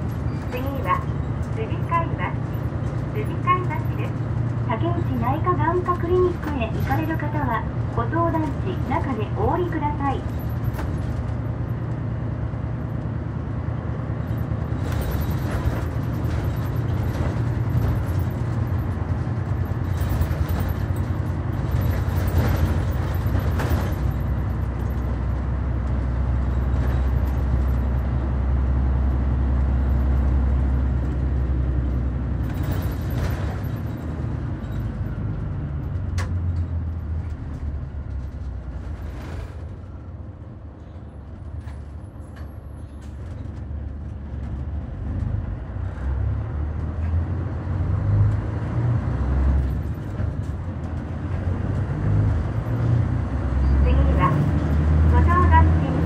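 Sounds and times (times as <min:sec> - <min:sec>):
bus engine drone: 0:00.0 - 0:56.0
interior rattles and clicks: 0:00.0 - 0:56.0.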